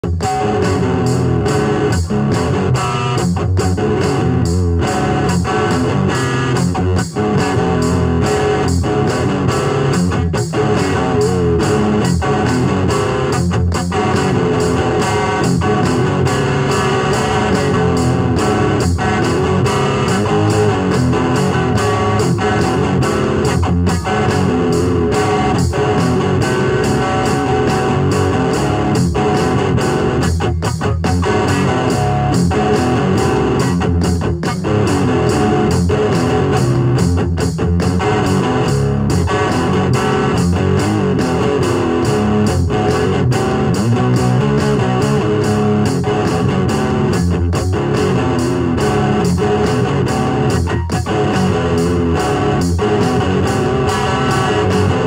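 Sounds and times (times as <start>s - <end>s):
guitar music with regular beat: 0.0s - 55.0s.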